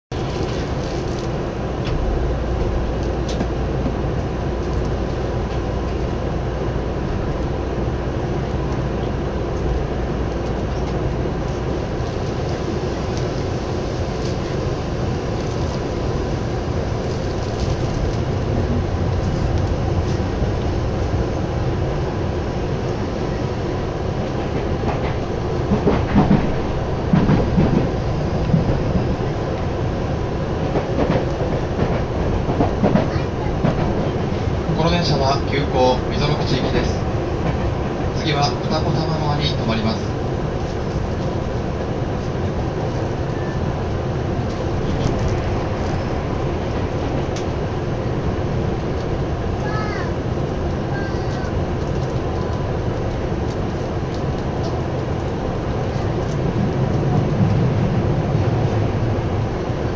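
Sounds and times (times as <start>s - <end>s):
train interior rumble and hum: 0.0s - 59.9s.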